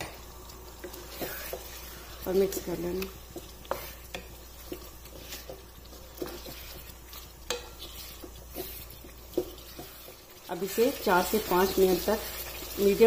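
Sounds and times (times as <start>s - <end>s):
frying sizzle: 0.0s - 13.0s
wooden spatula scraping a pan: 0.8s - 13.0s.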